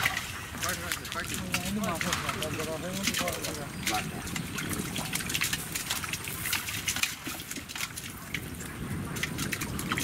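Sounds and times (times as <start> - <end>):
pond water splashing: 0.0 - 10.0.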